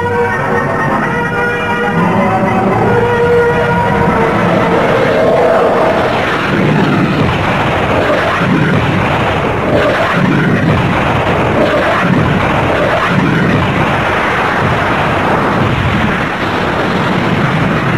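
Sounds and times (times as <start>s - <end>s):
jet aircraft roar: 0.0s - 17.9s.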